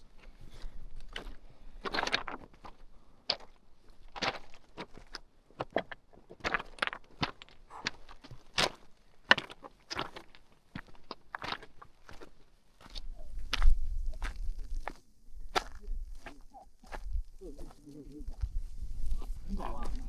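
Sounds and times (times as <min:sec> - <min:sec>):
footsteps crunching on rocky trail: 0:00.2 - 0:20.0.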